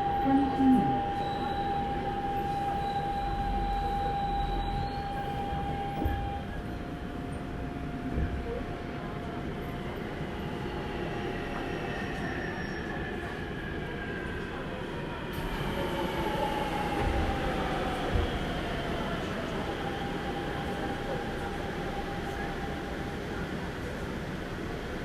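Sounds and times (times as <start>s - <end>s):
train wheels rumbling on track: 0.8s - 25.0s.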